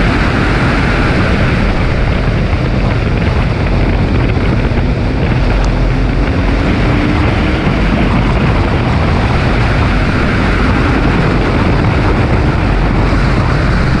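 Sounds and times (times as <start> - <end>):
car engine at speed: 0.0 - 14.0
wind buffeting microphone: 0.0 - 14.0.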